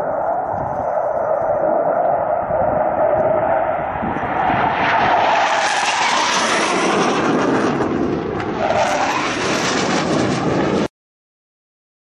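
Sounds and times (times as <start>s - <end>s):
jet flying low past: 0.0s - 10.9s.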